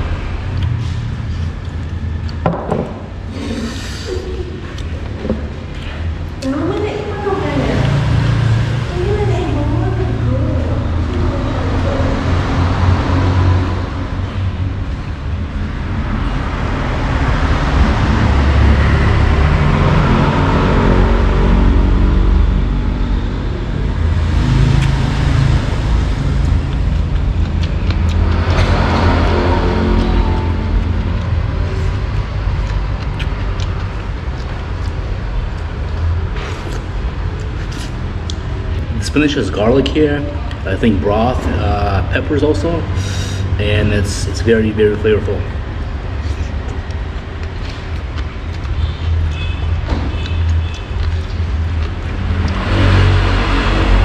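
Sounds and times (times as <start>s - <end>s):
vehicle engines rumbling: 0.0s - 54.0s.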